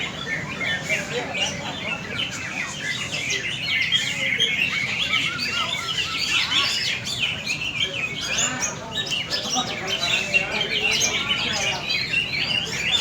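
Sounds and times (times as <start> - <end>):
birds singing chatter: 0.0 - 13.0.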